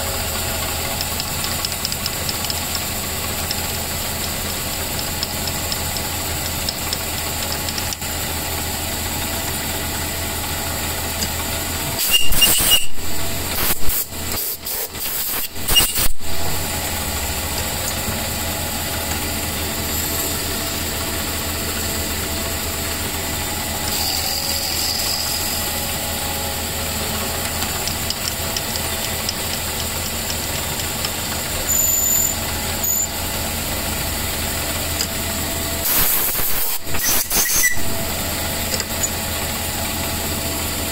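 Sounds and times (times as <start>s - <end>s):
small lathe running: 0.0s - 40.9s.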